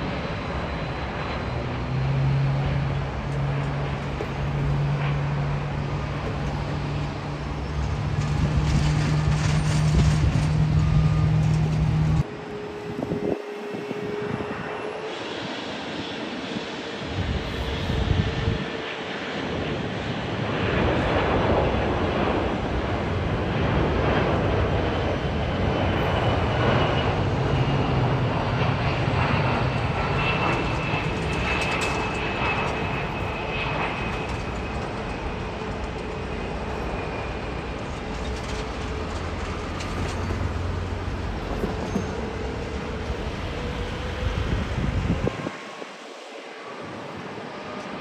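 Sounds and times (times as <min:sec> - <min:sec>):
high jet whine: 0:00.0 - 0:48.0
jet engine rumble: 0:00.0 - 0:48.0.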